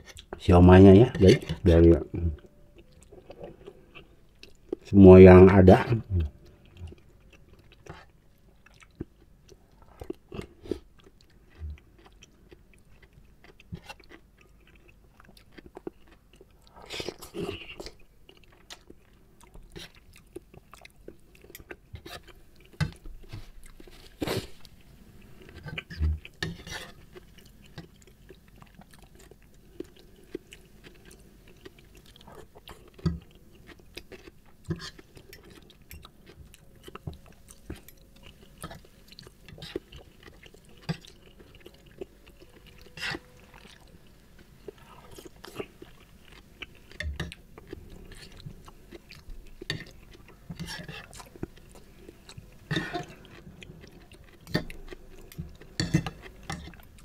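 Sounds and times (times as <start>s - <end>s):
wet chewing with mouth clicks: 2.2s - 4.9s, 6.2s - 57.0s.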